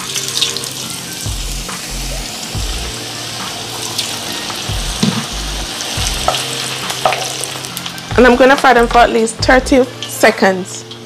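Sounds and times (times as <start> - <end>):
background music with bass: 0.0 - 11.0
potatoes sizzling in hot oil: 0.0 - 11.0.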